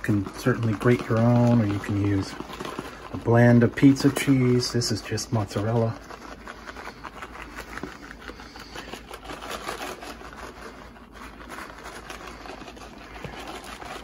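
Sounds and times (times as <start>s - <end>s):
plastic pouch crinkling: 0.0s - 14.0s.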